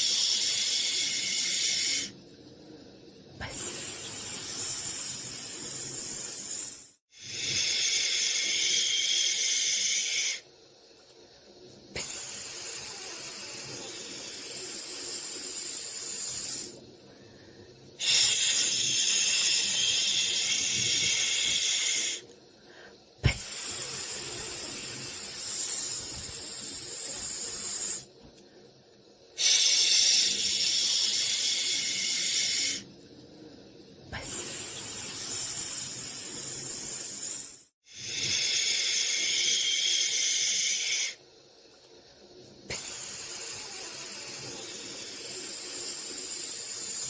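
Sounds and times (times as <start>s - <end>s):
white noise hiss: 0.0s - 47.0s.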